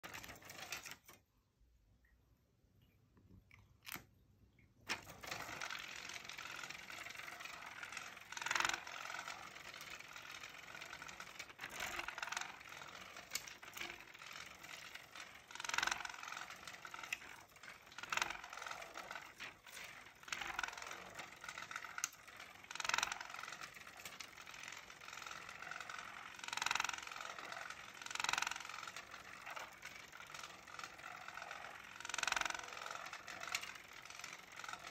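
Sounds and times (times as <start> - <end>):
toy motor whirring: 0.0 - 1.2, 4.9 - 34.9.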